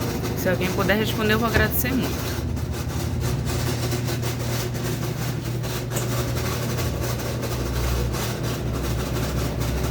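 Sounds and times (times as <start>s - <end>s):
washing machine spinning: 0.0s - 9.9s.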